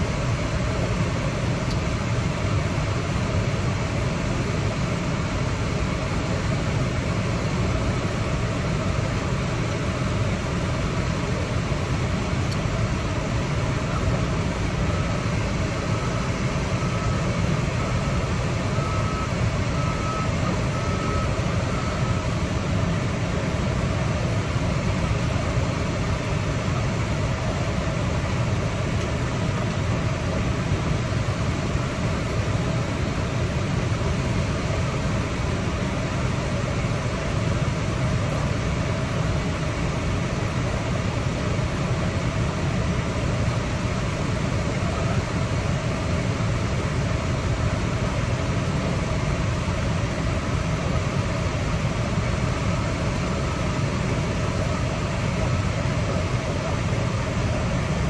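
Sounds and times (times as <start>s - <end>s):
air conditioning fan blowing: 0.0s - 58.0s.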